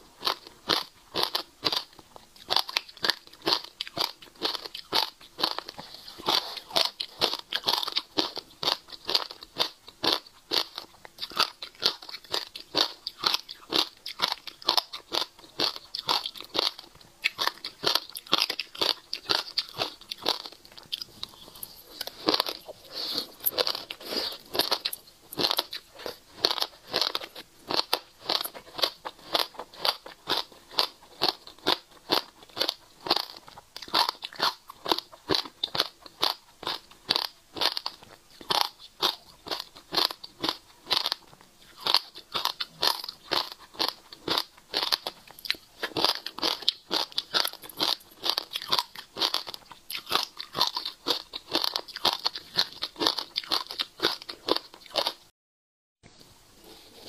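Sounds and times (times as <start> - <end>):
seeds crunched between teeth: 0.2 - 55.2.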